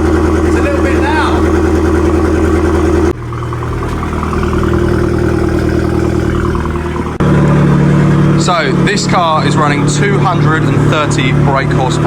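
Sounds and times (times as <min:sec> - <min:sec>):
car engine idling loudly: 0:00.0 - 0:12.0.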